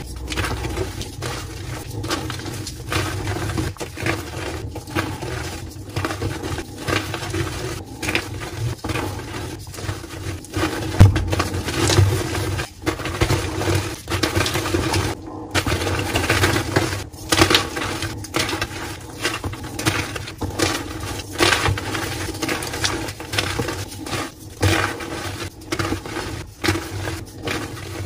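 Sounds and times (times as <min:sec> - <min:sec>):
chalk crunching and crackling: 0:00.0 - 0:28.0
loud chalk crack: 0:00.0 - 0:28.0.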